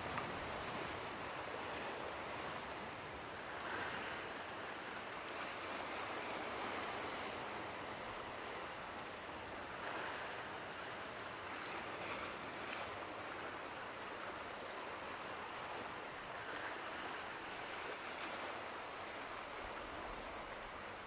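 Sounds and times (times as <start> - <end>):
ocean surf on beach: 0.0 - 21.0.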